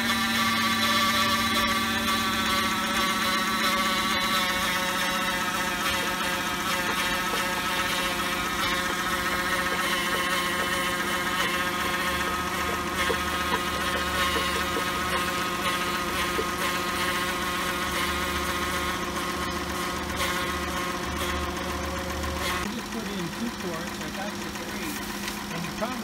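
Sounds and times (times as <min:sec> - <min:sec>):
high transmission whine: 0:00.0 - 0:26.0
car engine idling: 0:01.4 - 0:26.0.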